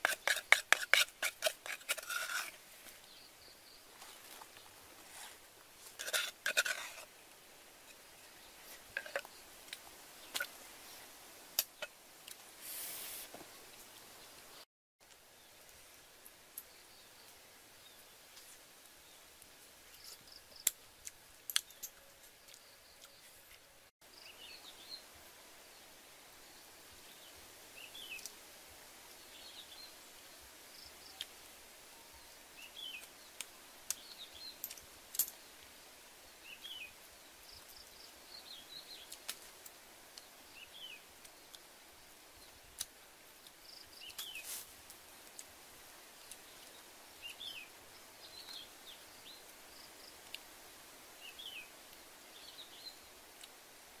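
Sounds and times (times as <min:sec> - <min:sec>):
steady hiss: 0:00.0 - 0:21.5, 0:24.1 - 0:54.0.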